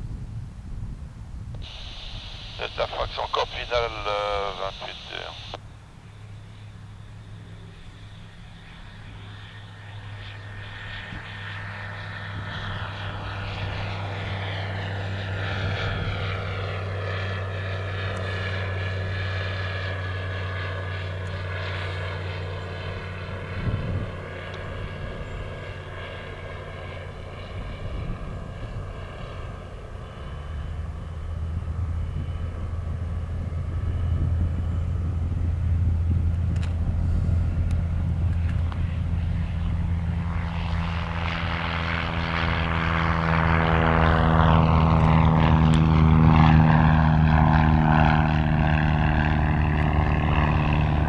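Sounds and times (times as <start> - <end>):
propeller aircraft engine: 0.0 - 51.0.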